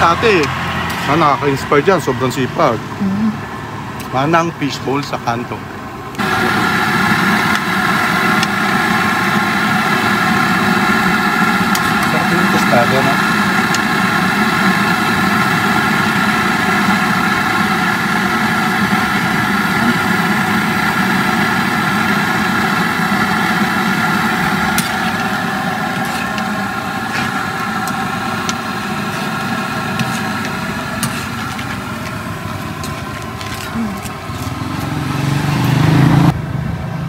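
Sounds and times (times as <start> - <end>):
small engine idling: 6.1 - 36.1.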